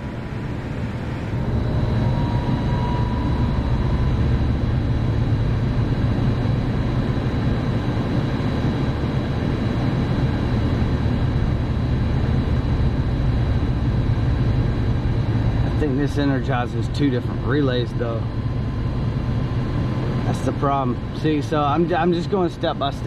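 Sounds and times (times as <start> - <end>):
faint high whine: 0.0 - 23.0
hvac fan running: 0.0 - 23.0.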